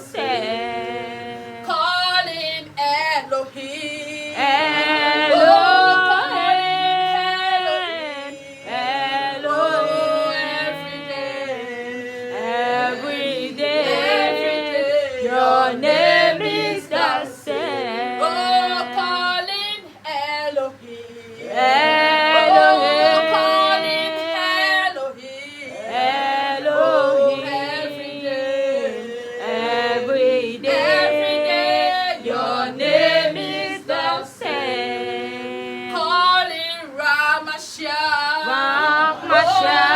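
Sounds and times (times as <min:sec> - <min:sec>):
women singing in harmony: 0:00.0 - 0:39.9.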